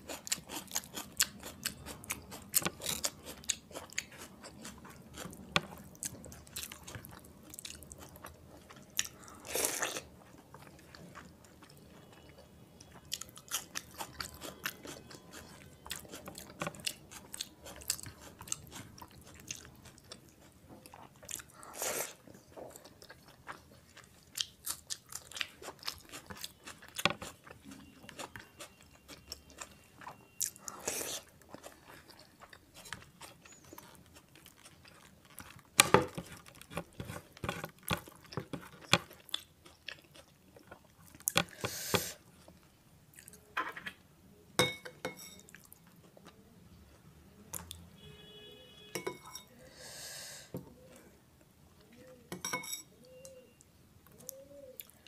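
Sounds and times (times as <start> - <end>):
person chewing food: 0.0 - 43.5, 54.0 - 55.0.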